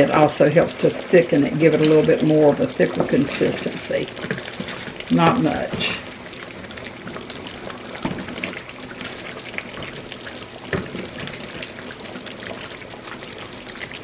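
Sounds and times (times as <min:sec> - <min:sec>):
sauce simmering and crackling: 0:00.0 - 0:14.0.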